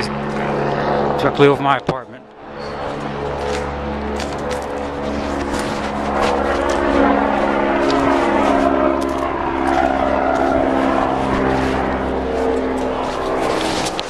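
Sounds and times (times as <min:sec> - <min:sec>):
helicopter flying overhead: 0:00.0 - 0:14.0.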